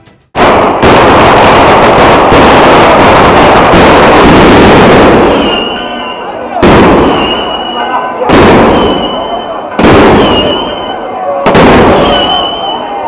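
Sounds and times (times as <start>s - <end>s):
firecrackers crackling: 0.4s - 13.0s.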